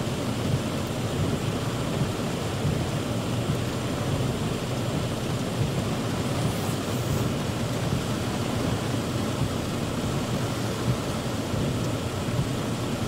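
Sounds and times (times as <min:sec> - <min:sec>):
heavy rain drumming on a car roof: 0:00.0 - 0:13.0.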